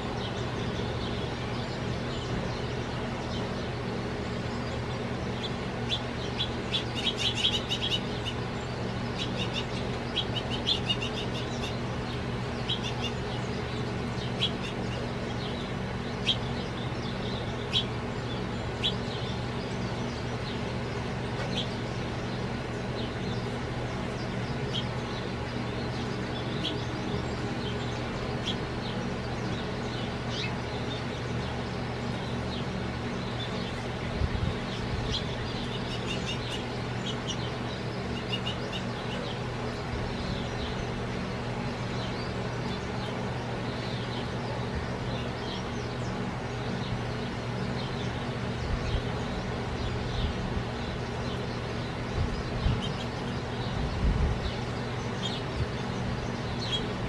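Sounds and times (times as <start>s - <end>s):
low background hum: 0.0s - 57.0s
small songbirds chirping: 0.0s - 57.0s.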